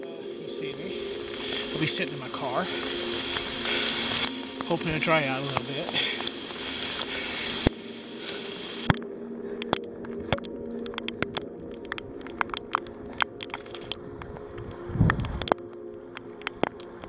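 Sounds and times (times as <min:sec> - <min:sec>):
steady low hum: 0:00.0 - 0:16.4
rain hissing: 0:00.0 - 0:17.0
raindrop ticks: 0:00.9 - 0:17.0.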